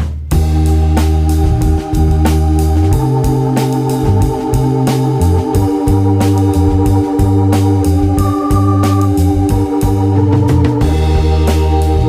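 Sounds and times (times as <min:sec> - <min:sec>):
organ music with beat: 0:00.0 - 0:12.0.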